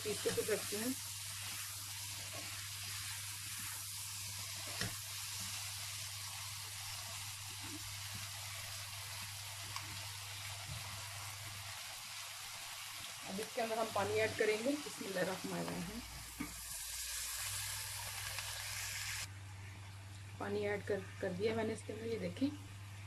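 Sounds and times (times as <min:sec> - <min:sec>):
food sizzling in oil: 0:00.0 - 0:19.3.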